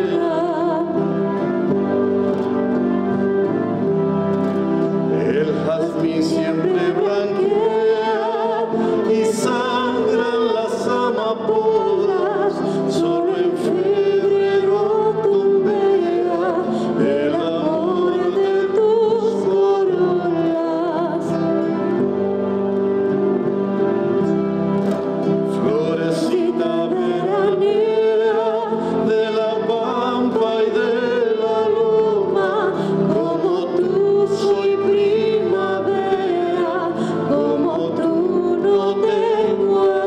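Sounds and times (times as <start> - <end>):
classical guitar: 0.0 - 40.0.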